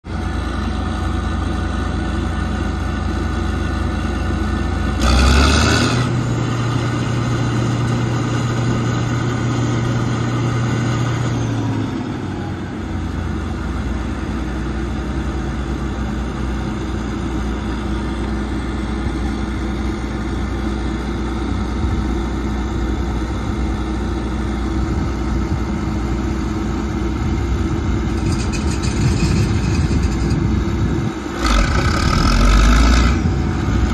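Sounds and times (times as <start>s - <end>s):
combine engine and threshing machinery: 0.1s - 33.9s.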